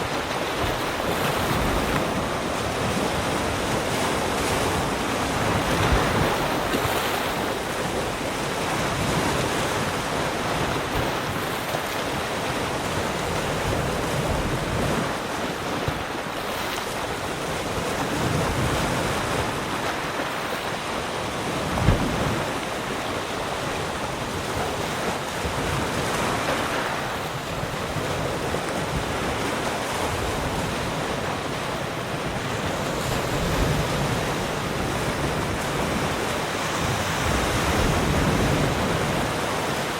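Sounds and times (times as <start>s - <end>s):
sea waves breaking: 0.0s - 39.9s
wind on microphone: 0.0s - 39.9s.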